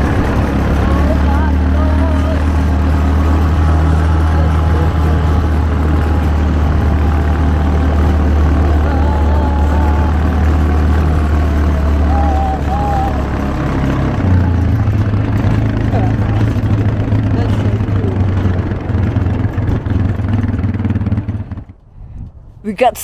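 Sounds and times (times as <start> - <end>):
atv engine droning: 0.0 - 21.9.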